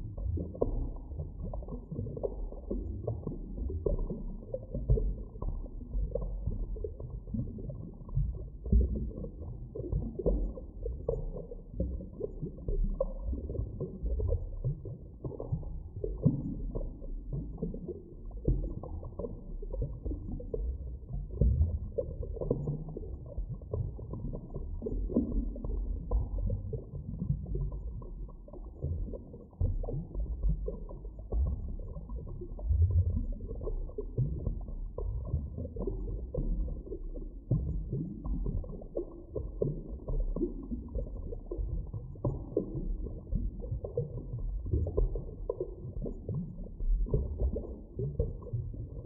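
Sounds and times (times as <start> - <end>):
muffled underwater rumble: 0.0 - 49.0
underwater gurgling: 0.0 - 49.0.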